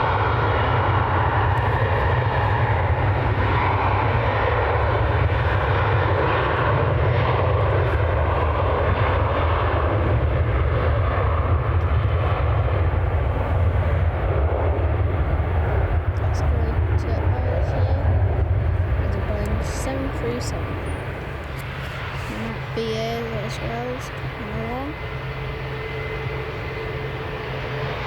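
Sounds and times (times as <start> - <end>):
jet engines at high power: 0.0 - 28.0.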